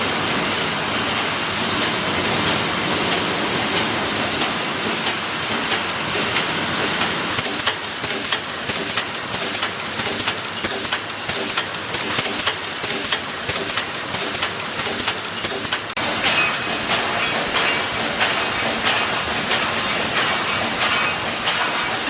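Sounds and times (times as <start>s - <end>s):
machine sharp clacks: 0.3s - 22.0s.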